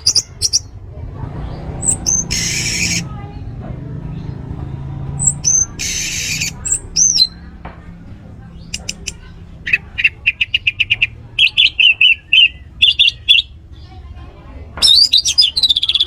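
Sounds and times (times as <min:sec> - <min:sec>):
thrush singing: 0:00.0 - 0:16.0.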